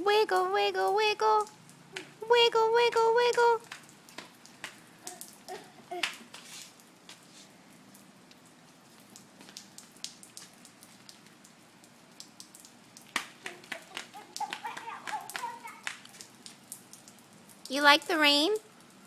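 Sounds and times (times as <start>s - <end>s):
light rain falling: 0.0s - 19.0s
raindrops ticking on surfaces: 0.0s - 19.0s.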